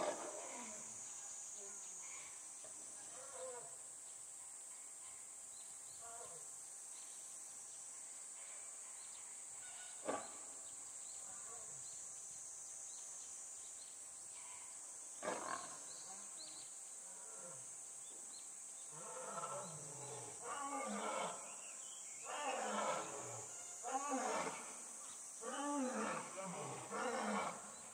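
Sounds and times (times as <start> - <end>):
high insect drone: 0.0 - 27.9.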